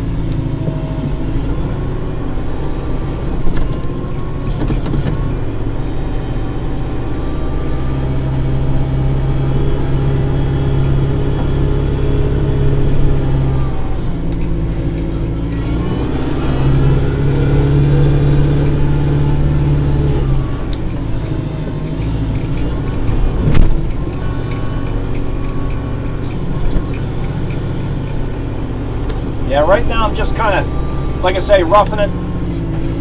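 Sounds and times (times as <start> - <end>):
diesel tractor engine under load: 0.0 - 33.0.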